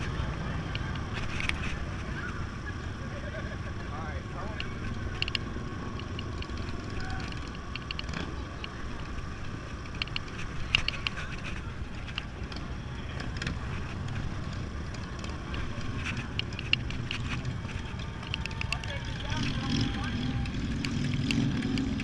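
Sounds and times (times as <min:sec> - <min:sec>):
scooter engine running: 0:00.0 - 0:22.0
sharp clicks and rattles: 0:00.0 - 0:22.0.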